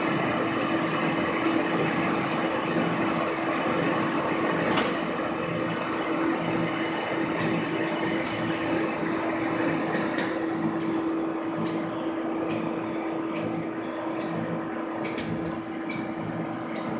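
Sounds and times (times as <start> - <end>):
extruder machine hum: 0.0 - 16.9
thin high whine: 0.0 - 16.9.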